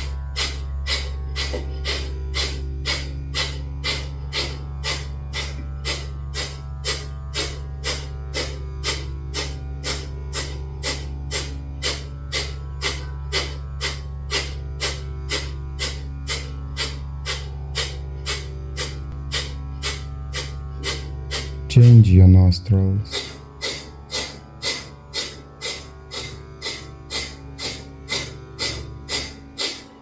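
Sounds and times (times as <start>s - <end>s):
low musical drone: 0.0s - 30.0s
forceful nasal exhalations: 0.4s - 21.7s, 23.1s - 29.9s.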